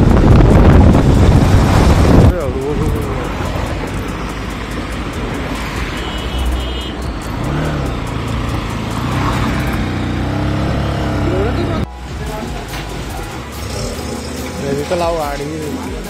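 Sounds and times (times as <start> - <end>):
motorcycle engine: 0.0 - 15.2
road noise: 0.0 - 16.0.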